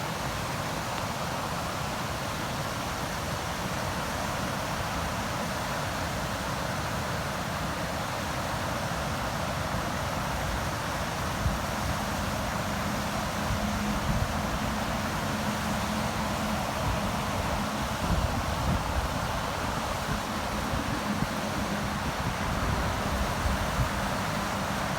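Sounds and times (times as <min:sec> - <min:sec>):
river water rushing: 0:00.0 - 0:24.9.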